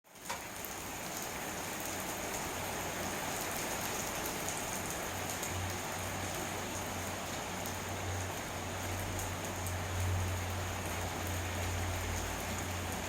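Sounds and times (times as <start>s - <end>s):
steady rain hiss: 0.1s - 13.0s.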